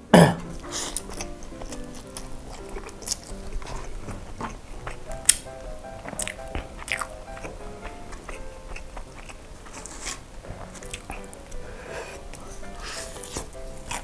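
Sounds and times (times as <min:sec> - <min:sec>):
light melody: 0:00.0 - 0:14.0.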